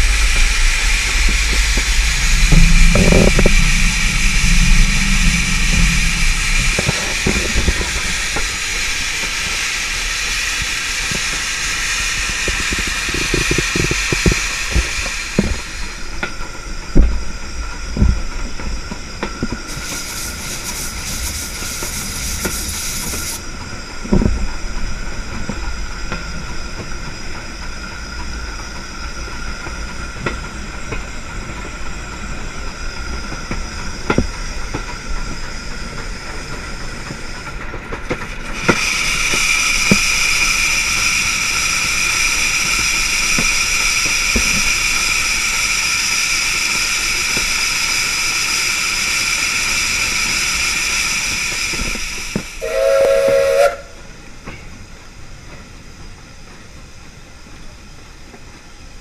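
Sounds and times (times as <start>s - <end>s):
locomotive wheels clanking: 0.0s - 28.4s, 29.6s - 57.6s
steam hiss: 0.0s - 59.0s.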